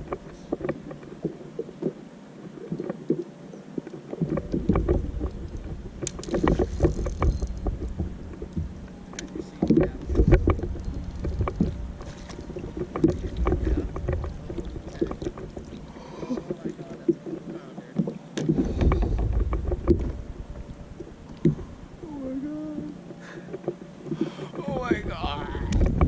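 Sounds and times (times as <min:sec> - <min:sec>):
gear knocking and rattling in boat: 0:00.0 - 0:03.3, 0:03.9 - 0:26.0
low rumble: 0:04.2 - 0:26.0.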